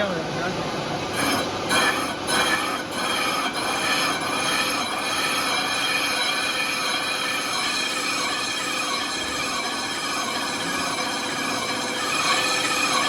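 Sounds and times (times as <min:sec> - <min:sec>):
factory machinery running: 0:00.0 - 0:13.0
high squealing tones: 0:01.2 - 0:13.0.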